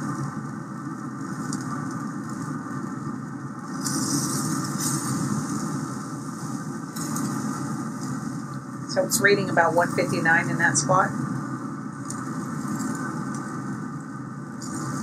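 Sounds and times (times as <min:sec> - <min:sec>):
grill fan humming: 0:00.0 - 0:15.0.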